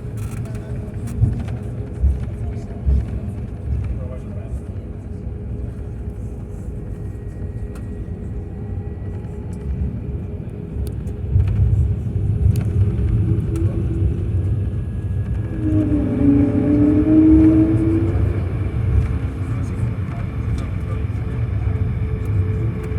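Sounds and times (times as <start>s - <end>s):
airliner cabin rumble: 0.0s - 22.9s.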